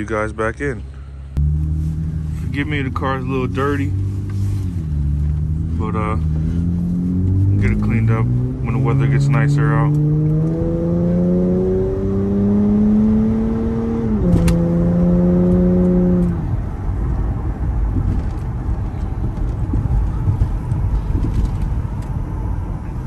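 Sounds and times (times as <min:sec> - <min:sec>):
car engine accelerating: 0:00.0 - 0:23.0
road and wind noise: 0:00.0 - 0:23.0.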